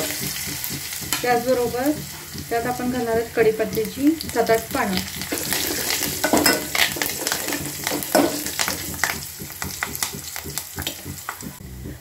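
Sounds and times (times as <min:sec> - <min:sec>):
spoon stirring: 0:00.0 - 0:11.5
hot oil sizzling in pan: 0:00.0 - 0:11.6.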